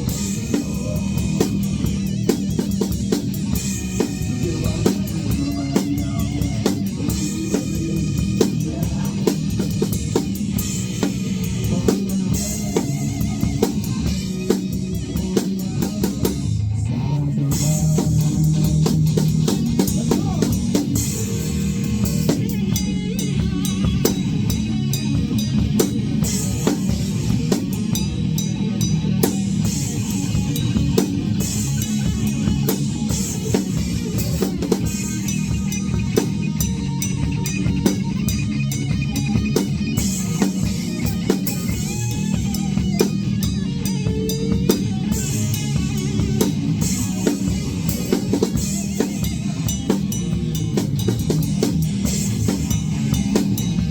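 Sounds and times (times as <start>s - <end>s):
drum kit beat: 0.0s - 53.9s
rock band song: 0.0s - 53.9s.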